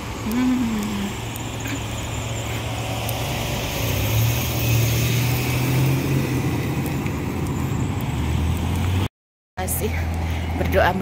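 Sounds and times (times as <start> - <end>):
passing car engine hum: 0.0 - 9.1
road noise: 0.0 - 11.0.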